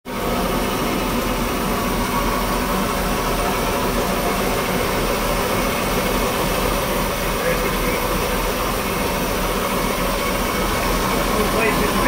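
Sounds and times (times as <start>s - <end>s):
steam engine running: 0.1s - 12.0s.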